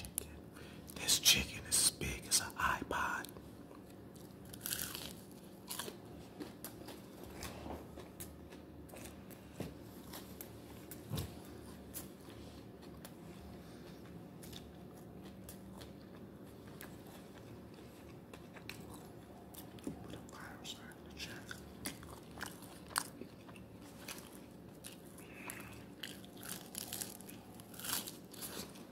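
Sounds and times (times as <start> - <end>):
man chewing food: 3.0 - 28.9.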